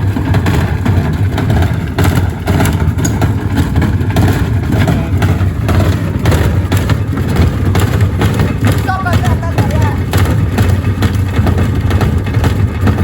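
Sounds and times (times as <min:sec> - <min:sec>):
bricks knocking in drum: 0:00.0 - 0:13.0
washing machine rumble: 0:00.0 - 0:13.0.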